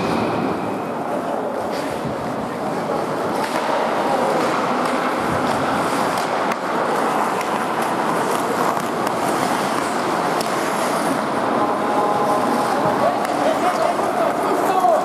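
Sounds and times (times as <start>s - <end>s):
hockey sticks and puck clacking: 0.0s - 15.0s
skates scraping on ice: 0.0s - 15.0s.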